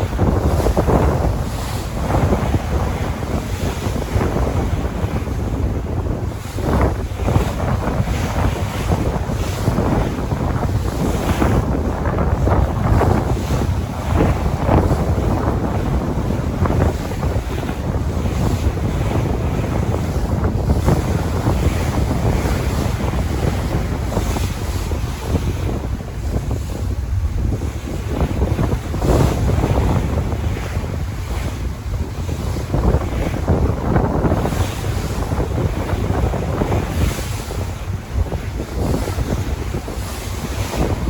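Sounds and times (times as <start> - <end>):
sea waves washing on shore: 0.0 - 41.0
wind buffeting microphone: 0.0 - 41.0.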